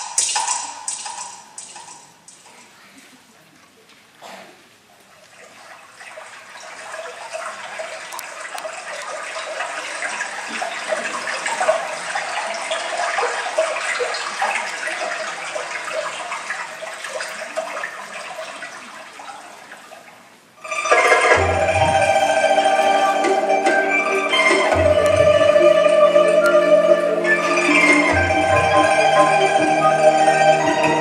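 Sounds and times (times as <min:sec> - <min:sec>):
running trickling water: 0:04.7 - 0:31.0.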